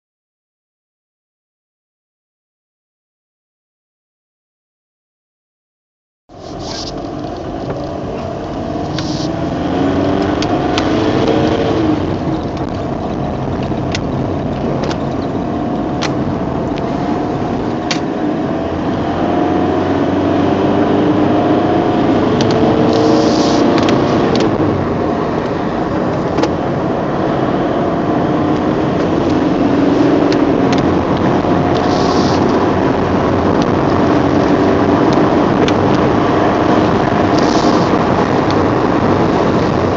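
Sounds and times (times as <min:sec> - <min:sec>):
tyre and road noise: 0:06.3 - 0:39.9
car engine accelerating: 0:06.4 - 0:39.9.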